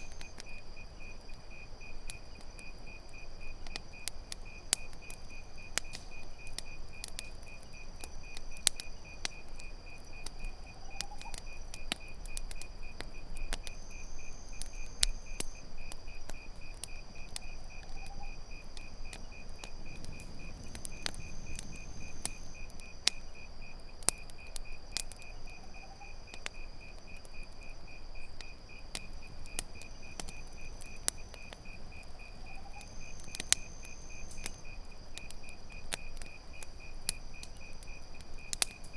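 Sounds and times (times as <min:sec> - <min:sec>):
campfire crackling and popping: 0:00.0 - 0:38.9
cricket chorus: 0:00.0 - 0:38.9.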